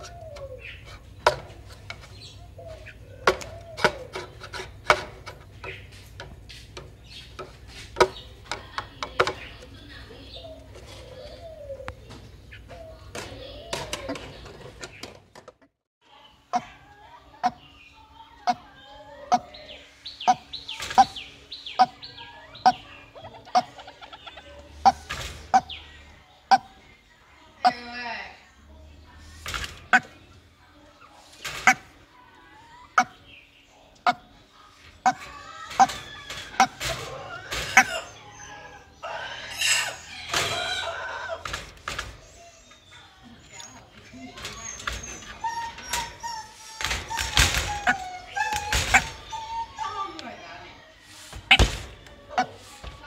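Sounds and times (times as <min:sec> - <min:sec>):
bird clucking calls: 0:00.0 - 0:15.2, 0:16.4 - 0:28.1, 0:29.4 - 0:52.8.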